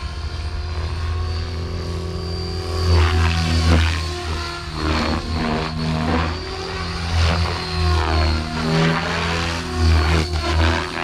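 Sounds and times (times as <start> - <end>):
electric motor whine: 0.0 - 11.0
helicopter rotor blades whirring: 0.0 - 11.0.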